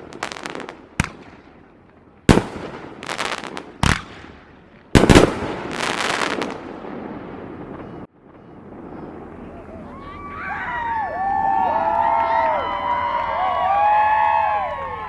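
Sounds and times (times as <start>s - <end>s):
fireworks bangs: 0.0s - 12.1s
fireworks crackling: 0.0s - 12.1s.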